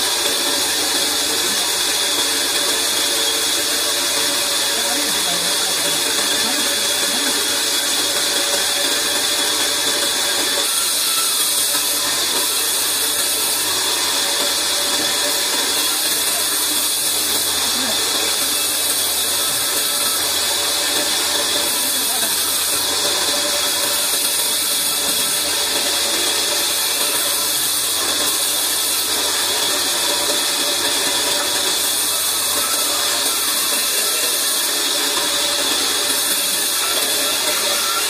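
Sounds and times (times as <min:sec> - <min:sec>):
band saw blade cutting wood: 0:00.0 - 0:38.0.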